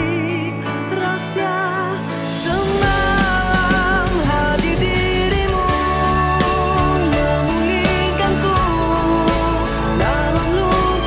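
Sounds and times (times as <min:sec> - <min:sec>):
song with held melody note: 0:01.2 - 0:11.0.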